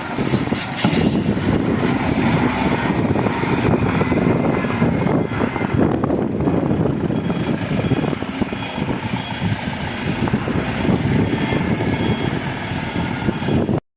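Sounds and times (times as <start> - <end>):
heavy machinery diesel engine: 0.0 - 13.8.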